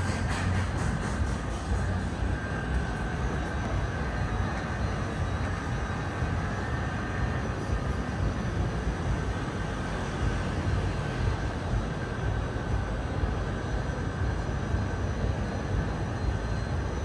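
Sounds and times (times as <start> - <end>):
low rumble of city ambience: 0.0 - 17.0.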